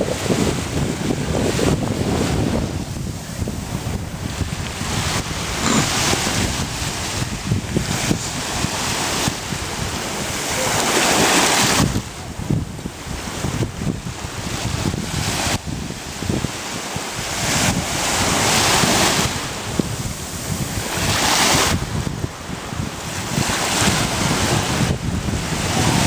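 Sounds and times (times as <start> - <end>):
small waves washing onto sand: 0.0 - 26.0
wind rumbling on microphone: 0.0 - 26.0.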